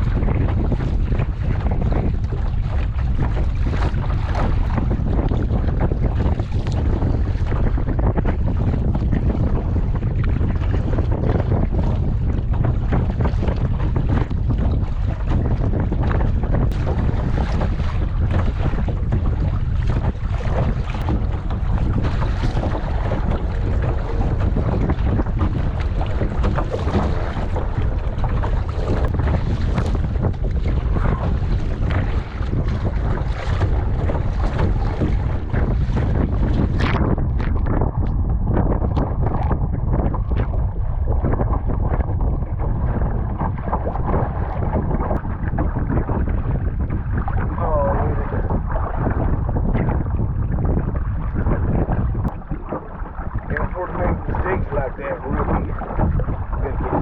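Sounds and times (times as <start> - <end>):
water splashing around kayak: 0.0 - 57.0
wind buffeting microphone: 0.0 - 57.0.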